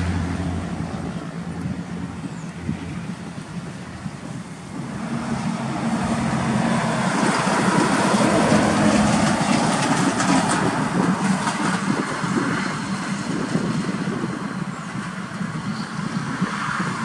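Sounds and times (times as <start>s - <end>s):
truck passing on highway: 0.0s - 17.0s.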